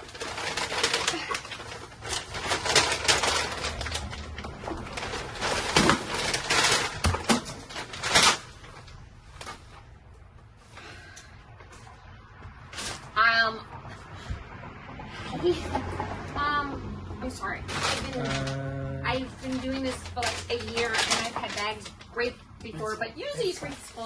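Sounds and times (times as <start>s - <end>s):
rustling: 0.0s - 13.2s, 17.6s - 24.0s.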